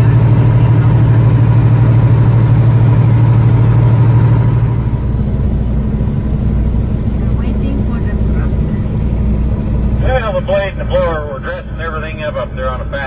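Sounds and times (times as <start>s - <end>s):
truck diesel engine throbbing: 0.0s - 13.0s.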